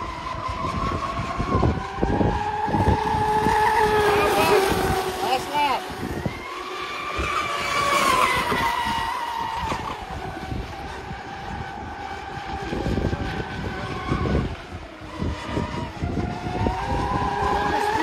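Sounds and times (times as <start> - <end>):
rc boat motor whine: 0.0 - 18.0
wind buffeting microphone: 0.0 - 18.0.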